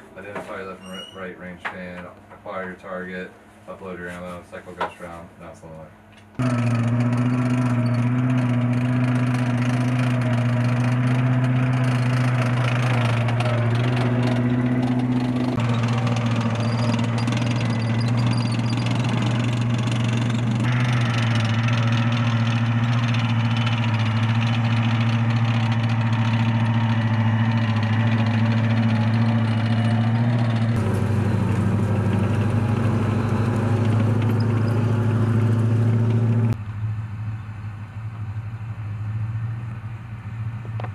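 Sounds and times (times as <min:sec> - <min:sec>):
diesel engine running: 0:06.4 - 0:40.9.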